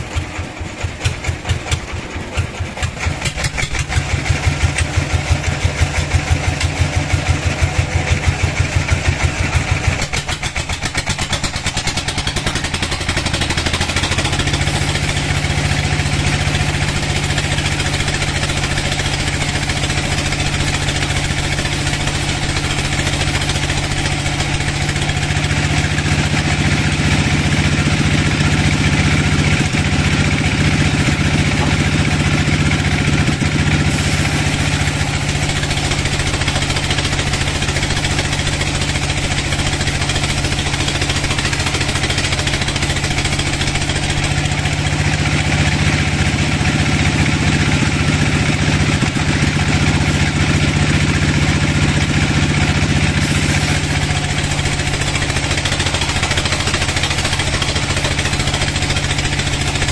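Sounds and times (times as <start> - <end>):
band saw cutting a log: 0.0 - 59.9.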